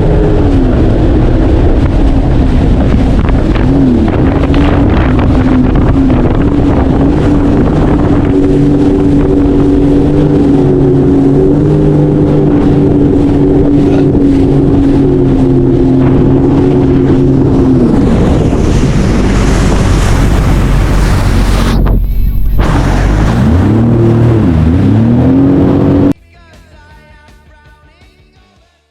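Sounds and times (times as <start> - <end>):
jet ski engine running: 0.0 - 26.2
wind on microphone: 0.0 - 26.2.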